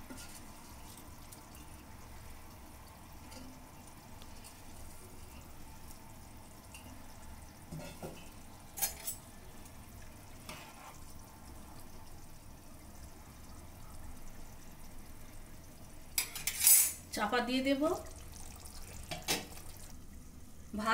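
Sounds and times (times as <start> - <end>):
water sloshing in a pot: 0.0 - 20.9.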